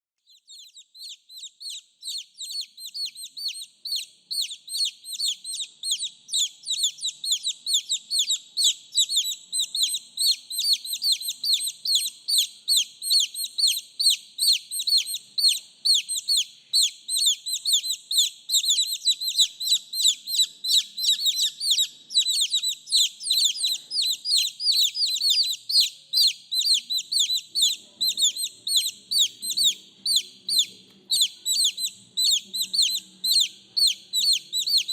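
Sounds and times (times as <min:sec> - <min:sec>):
baby chicks peeping: 0:00.2 - 0:34.9.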